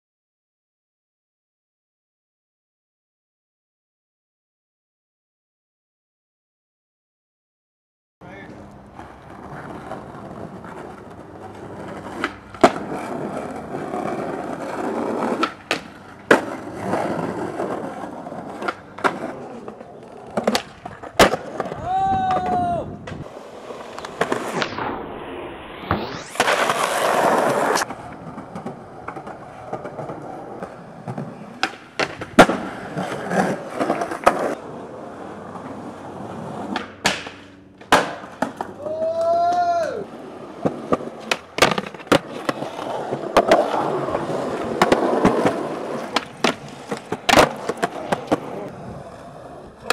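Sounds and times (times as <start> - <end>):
skateboard wheels rolling on asphalt: 8.2 - 49.9
skateboard tail popping: 8.6 - 39.8, 40.5 - 49.9
skateboard slamming down on landings: 9.0 - 25.0, 25.8 - 49.9.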